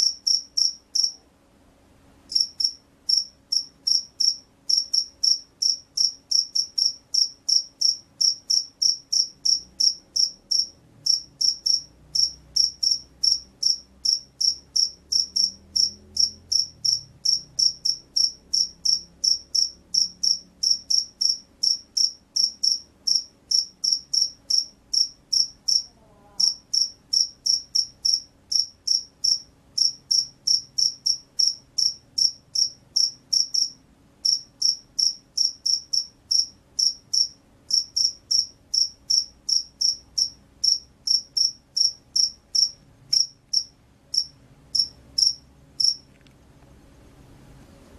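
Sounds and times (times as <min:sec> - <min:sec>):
cricket chirping: 0:00.0 - 0:01.2, 0:02.3 - 0:46.2.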